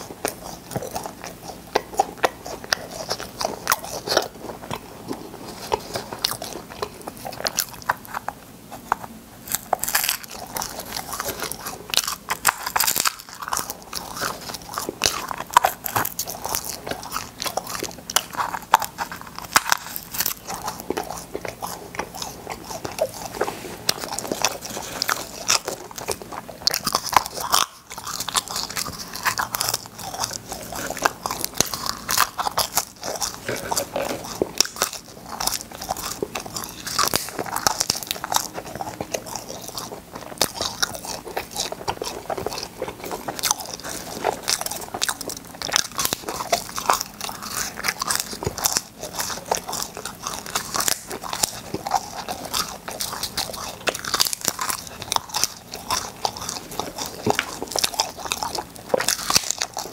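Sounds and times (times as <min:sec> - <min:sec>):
crunching and chewing candy: 0:00.0 - 0:59.9.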